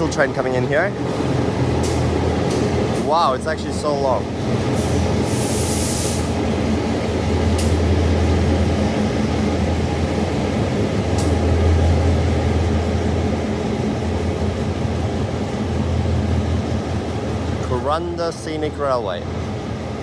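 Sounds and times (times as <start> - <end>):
locomotive engine humming: 0.0 - 20.0.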